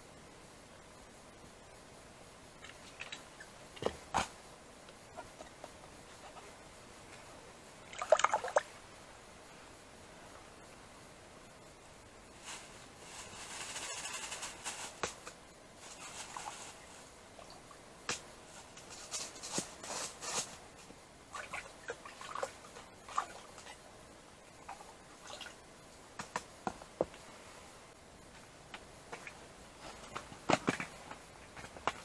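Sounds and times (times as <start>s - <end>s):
rustle: 0.0s - 32.0s.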